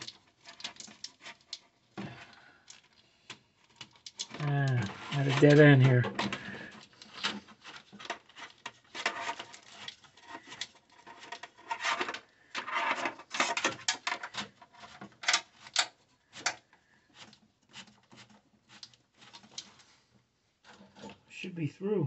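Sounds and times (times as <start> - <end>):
hands rubbing and scraping wiring: 0.0 - 21.2.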